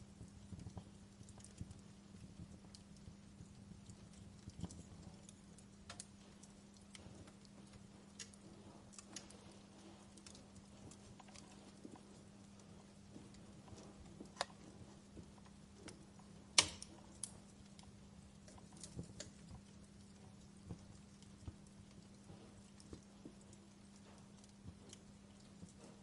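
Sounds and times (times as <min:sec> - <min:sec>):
faint steady hum: 0:00.0 - 0:26.0
fire crackling: 0:00.0 - 0:26.0.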